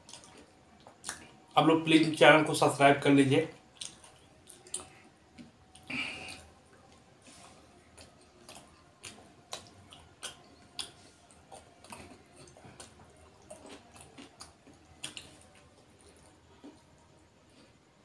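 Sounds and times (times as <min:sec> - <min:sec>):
wet chewing and smacking: 0:00.0 - 0:01.6, 0:03.6 - 0:18.0.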